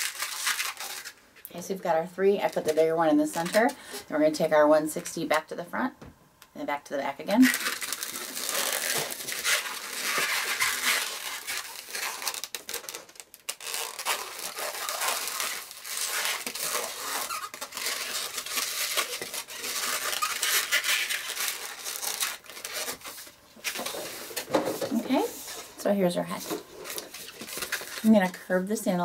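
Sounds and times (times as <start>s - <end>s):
balloons rubbing and squeaking: 0.0s - 4.2s, 7.3s - 28.3s.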